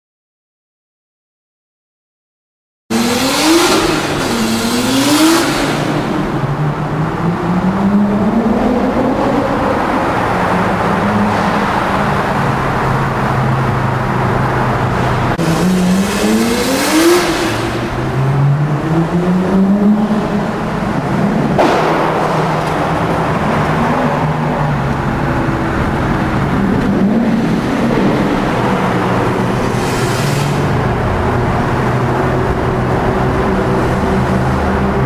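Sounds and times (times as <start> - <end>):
car engines accelerating in tunnel: 2.9 - 35.0.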